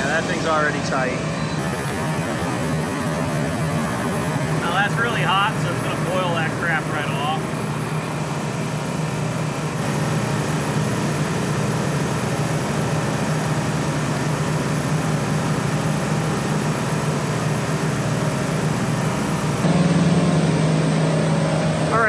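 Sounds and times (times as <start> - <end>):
refrigeration machinery hum: 0.0 - 22.0.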